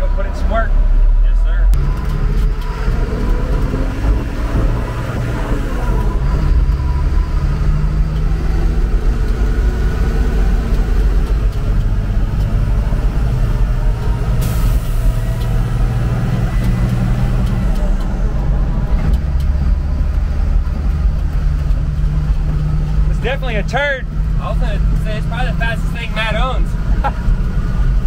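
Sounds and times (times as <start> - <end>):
diesel truck engine accelerating: 0.0 - 28.0.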